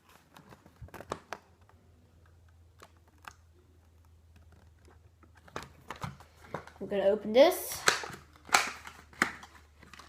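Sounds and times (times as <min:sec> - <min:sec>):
plastic packaging clicks and taps: 0:00.3 - 0:06.8, 0:07.8 - 0:10.0.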